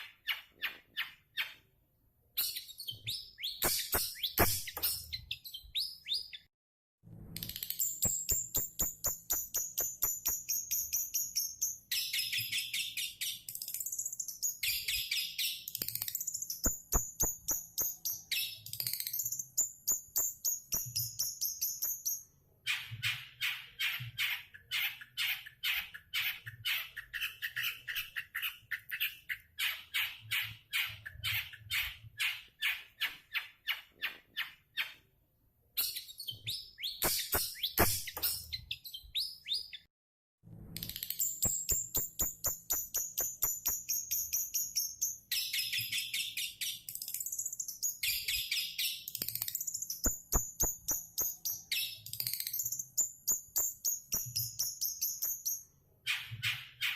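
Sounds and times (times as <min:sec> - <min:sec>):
bird chattering song: 0:02.4 - 0:06.5, 0:07.4 - 0:35.0, 0:35.8 - 0:39.9, 0:40.8 - 0:56.9
bird sharp repeated notes: 0:02.4 - 0:06.5, 0:07.4 - 0:33.7, 0:35.8 - 0:39.9, 0:40.8 - 0:56.9.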